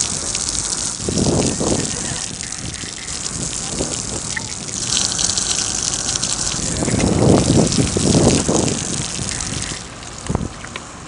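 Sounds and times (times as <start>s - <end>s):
water splashing over glass: 0.0s - 10.8s.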